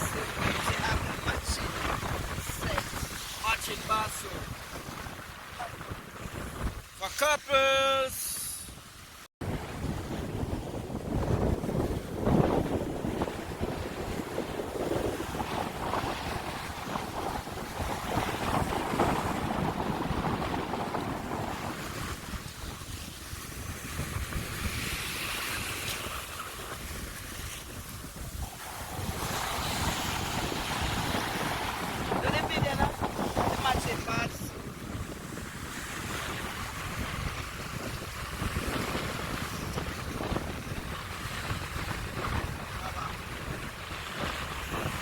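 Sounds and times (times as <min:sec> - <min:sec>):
wind buffeting microphone: 0:00.0 - 0:07.0, 0:08.6 - 0:45.0
rough surf rushing: 0:00.0 - 0:08.8, 0:09.4 - 0:45.0.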